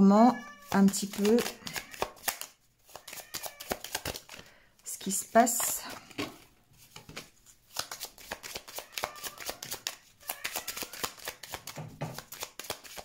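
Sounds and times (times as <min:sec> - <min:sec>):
cards being shuffled: 0:00.6 - 0:13.0.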